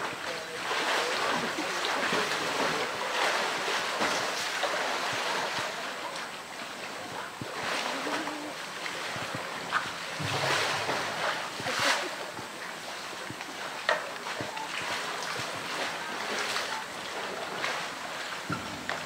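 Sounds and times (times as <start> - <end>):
bear splashing in pool water: 0.0 - 19.0.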